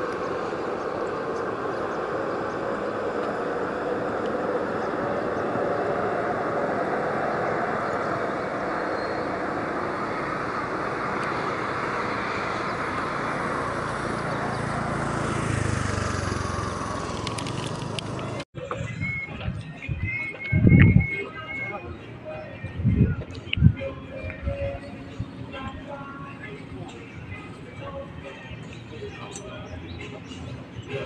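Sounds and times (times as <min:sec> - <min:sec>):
distant town and traffic noise: 0:00.0 - 0:31.0
low engine rumble: 0:00.0 - 0:31.0.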